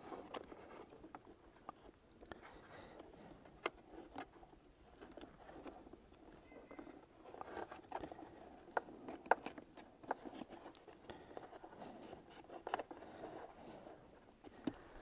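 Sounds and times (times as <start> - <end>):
battery handling scraping and rustling: 0.0 - 15.0.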